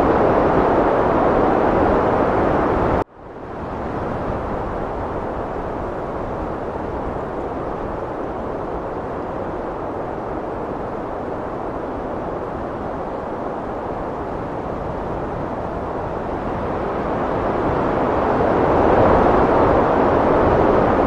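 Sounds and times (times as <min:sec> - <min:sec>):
heavy wind blowing: 0:00.0 - 0:21.0.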